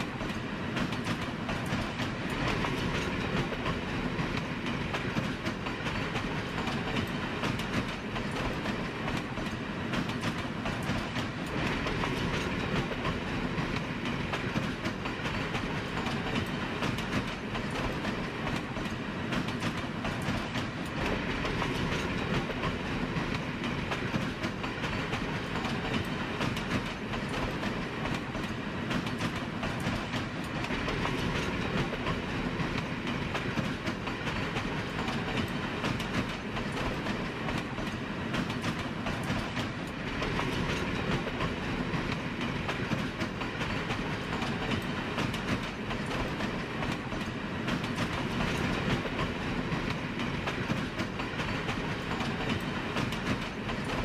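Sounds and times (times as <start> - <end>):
train wheels clattering on track: 0.0 - 54.0.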